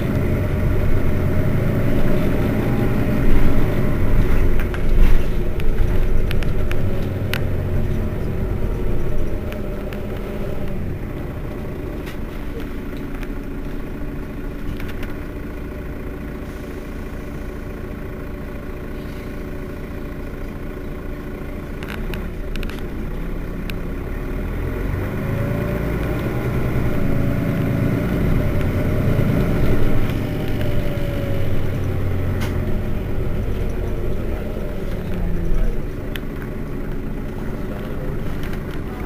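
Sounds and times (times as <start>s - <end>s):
bus diesel engine idling: 0.0s - 39.0s
deep engine rumble: 0.0s - 39.0s.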